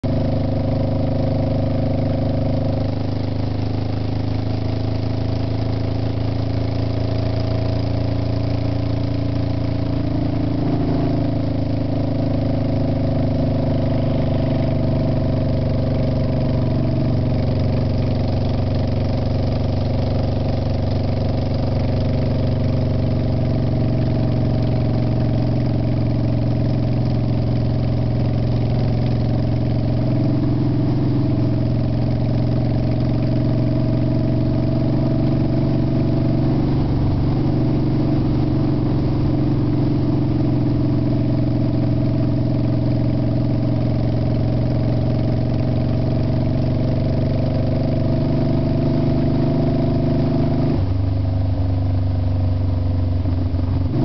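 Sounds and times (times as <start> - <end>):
car engine cruising: 0.0 - 54.0
road and wind noise: 0.0 - 54.0.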